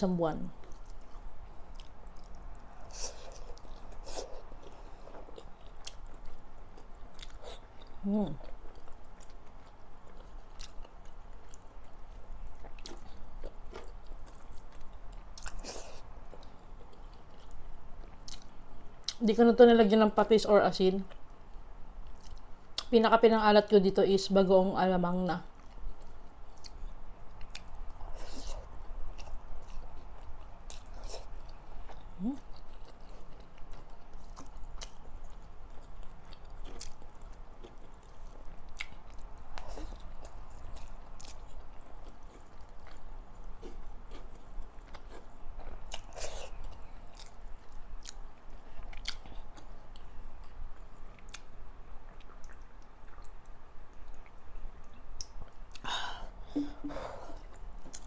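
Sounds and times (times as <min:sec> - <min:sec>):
person chewing food: 0:00.6 - 0:19.2, 0:21.1 - 0:22.9, 0:25.5 - 0:58.0.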